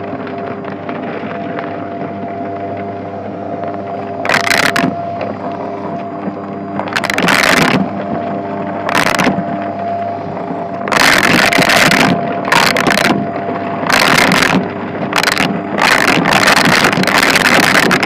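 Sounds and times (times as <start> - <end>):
vacuum cleaner motor hum: 0.5 - 18.0.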